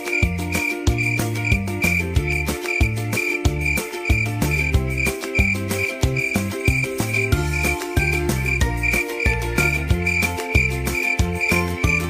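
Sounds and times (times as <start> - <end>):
children's music with bass line: 0.0 - 12.0
cricket chirping: 0.0 - 12.0.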